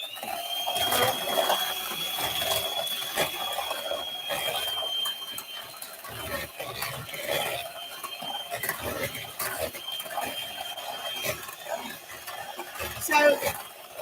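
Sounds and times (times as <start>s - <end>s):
mixer whirring whine: 0.0s - 14.0s.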